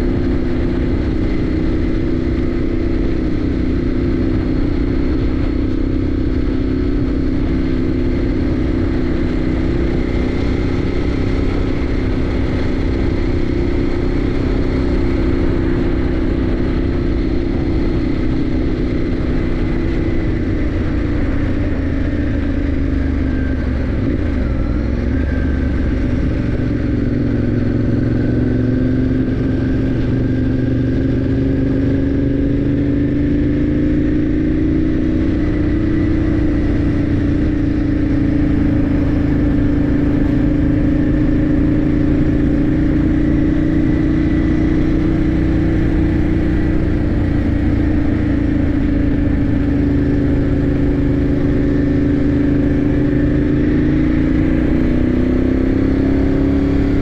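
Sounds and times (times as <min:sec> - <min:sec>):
motorcycle engine running: 0:00.0 - 0:57.0
wind and road rush: 0:00.0 - 0:57.0.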